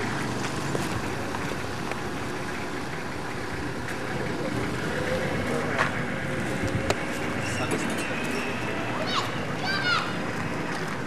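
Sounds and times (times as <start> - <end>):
suv engine running: 0.0 - 11.0.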